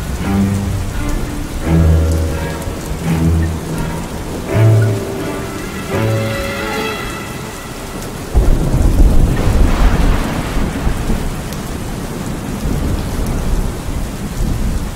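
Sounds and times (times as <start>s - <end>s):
steady rain: 0.0s - 14.9s
thunder rumble: 0.0s - 14.9s.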